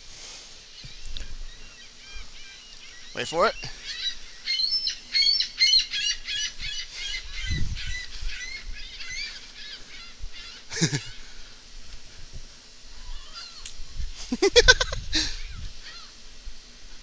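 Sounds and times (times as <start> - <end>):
gulls calling: 0.7 - 11.6, 12.9 - 16.2.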